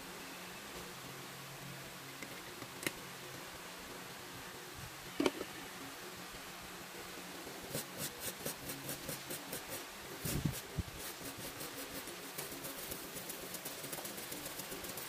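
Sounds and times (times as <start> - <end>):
faint hiss and hum: 0.0 - 15.0.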